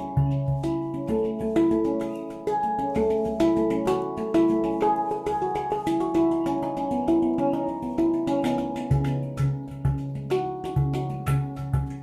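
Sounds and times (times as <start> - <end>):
hang drum melody: 0.0 - 12.0.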